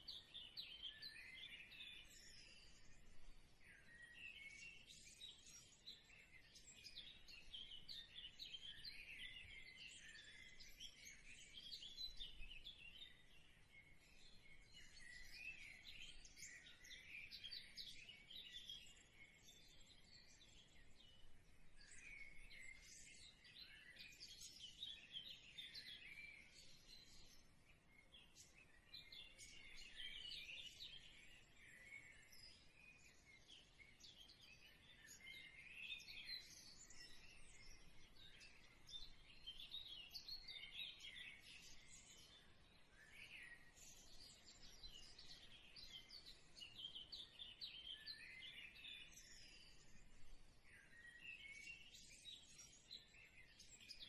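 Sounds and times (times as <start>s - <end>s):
faint birds chirping: 0.0s - 54.0s.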